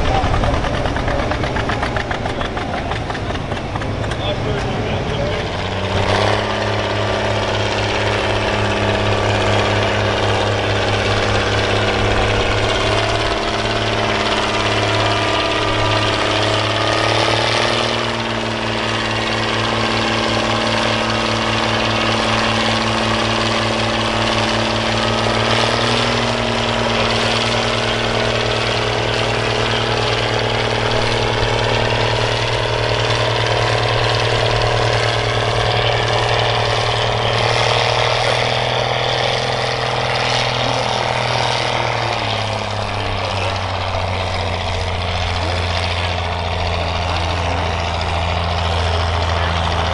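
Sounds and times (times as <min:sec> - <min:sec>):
tractor engine under load: 0:00.0 - 0:49.9.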